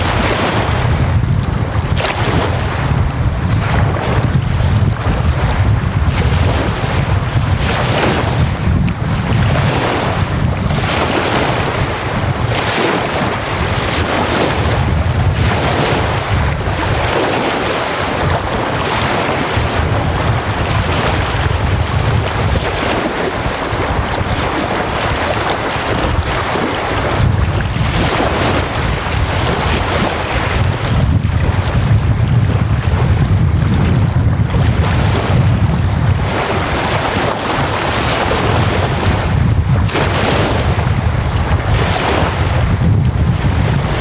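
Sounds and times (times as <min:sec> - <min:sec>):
gusting wind: 0:00.0 - 0:44.0
waves breaking on sandy shore: 0:00.0 - 0:44.0
wind rumble on microphone: 0:00.0 - 0:44.0.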